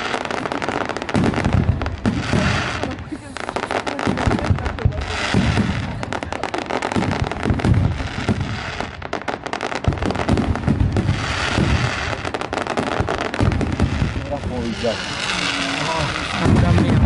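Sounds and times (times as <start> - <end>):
fireworks crackling and popping: 0.0 - 17.0
low fireworks bangs: 0.0 - 17.0.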